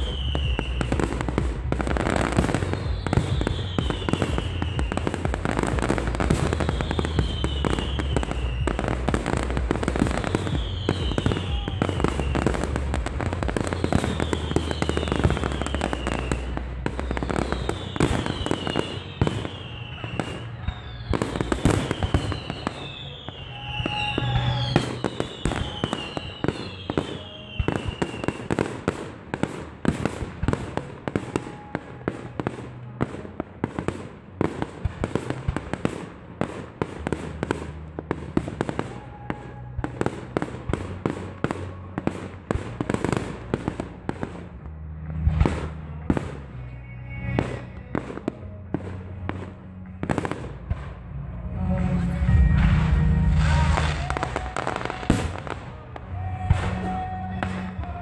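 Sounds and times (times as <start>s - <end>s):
fireworks bangs and crackling: 0.0s - 58.0s
fireworks falling whistles: 0.0s - 58.0s.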